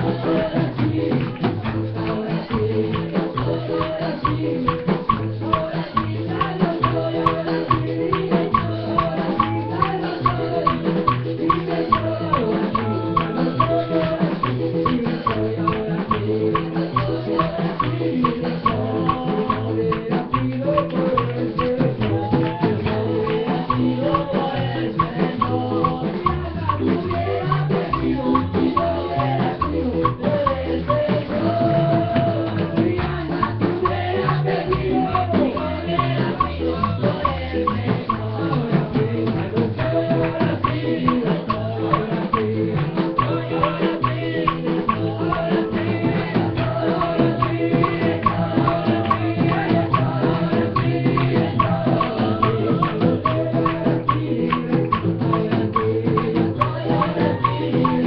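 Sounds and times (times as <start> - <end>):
drums: 0.0 - 58.0
keyboard: 0.0 - 58.0
voices singing along: 0.0 - 58.0
worship band playing: 0.0 - 58.0.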